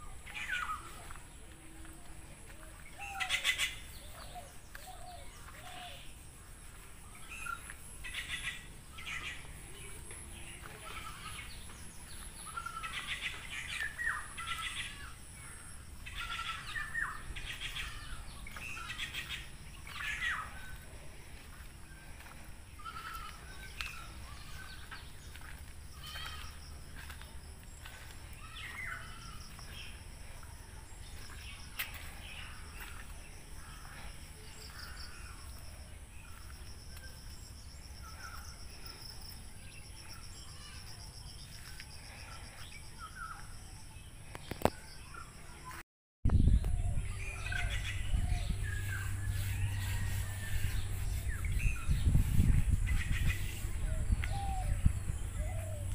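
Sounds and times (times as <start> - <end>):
birds chirping and calling: 0.0 - 55.9.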